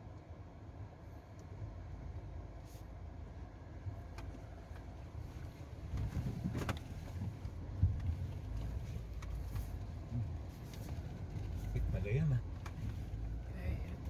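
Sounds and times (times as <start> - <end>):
vehicle rumbling over rough ground: 0.0 - 14.0.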